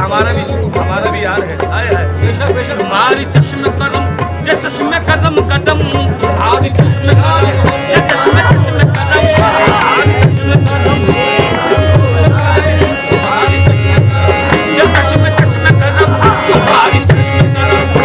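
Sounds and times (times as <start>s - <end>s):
hand drum beat: 0.0s - 18.0s
harmoniums playing: 0.0s - 18.0s
singers' voices: 0.0s - 18.0s.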